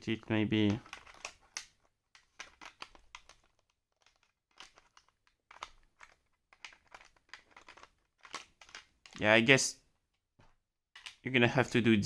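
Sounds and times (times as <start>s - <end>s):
faint clicks and crinkling: 0.0s - 11.7s.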